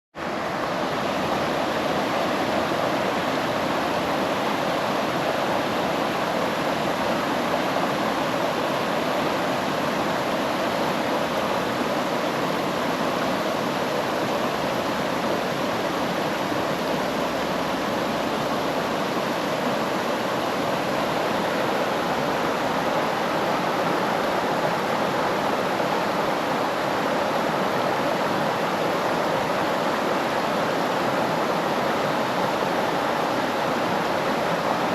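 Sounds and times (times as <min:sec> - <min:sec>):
water rushing: 0:00.2 - 0:34.9.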